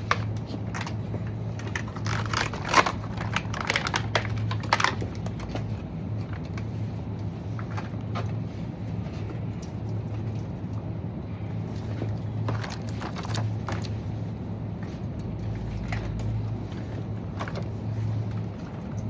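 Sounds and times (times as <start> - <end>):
low hum and rolling noise: 0.0 - 19.0.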